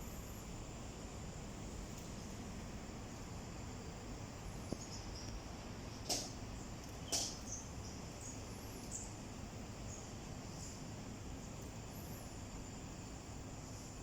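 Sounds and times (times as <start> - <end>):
high insect whine: 0.0 - 14.0.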